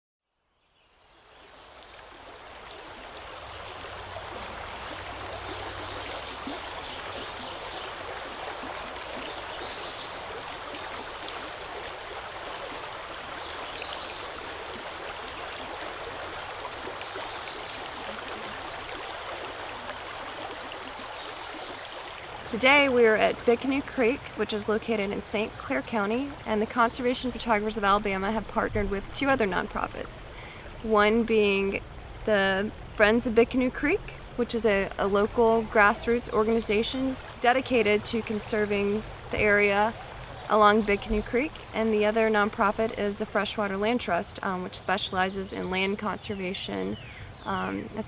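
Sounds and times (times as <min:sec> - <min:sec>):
creek water rushing over stones: 0:00.9 - 0:48.0.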